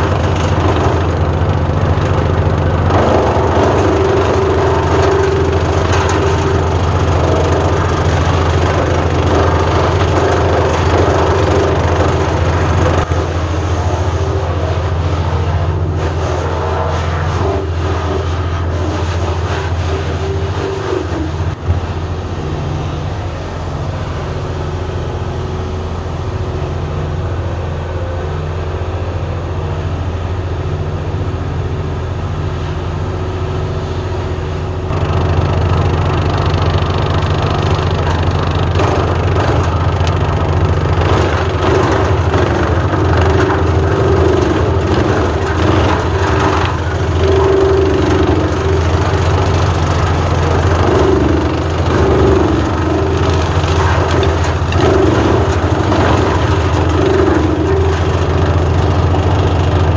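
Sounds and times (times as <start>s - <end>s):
tractor diesel engine running: 0.0s - 59.9s
wood chipper crunching branches: 0.0s - 59.9s.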